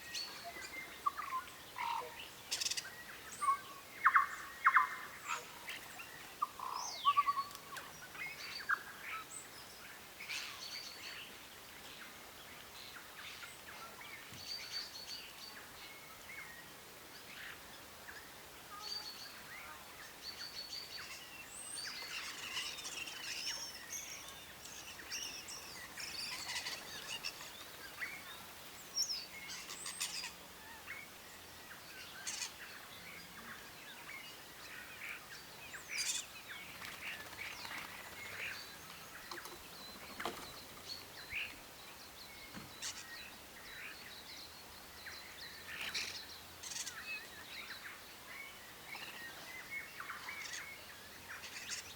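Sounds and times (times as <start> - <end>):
faint background hiss: 0.0 - 51.9.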